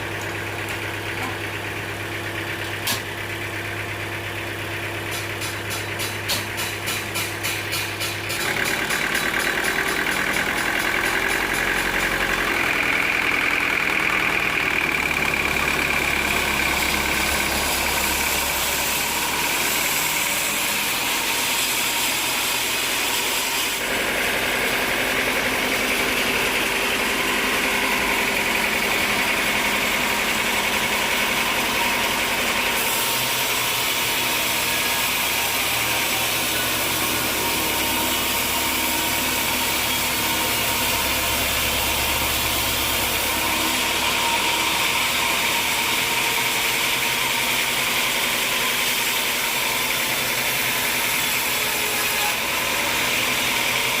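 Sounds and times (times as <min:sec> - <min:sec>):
sawmill machinery whining: 0:00.0 - 0:54.0.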